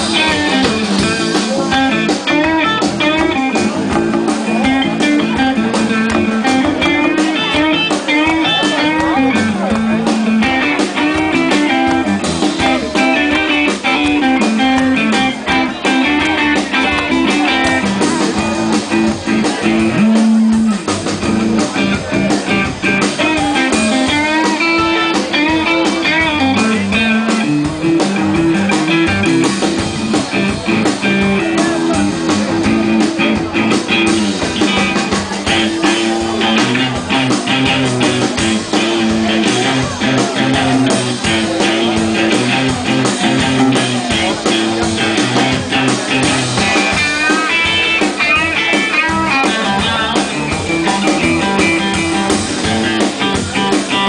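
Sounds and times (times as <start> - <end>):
blues-rock band playing: 0.0 - 54.0.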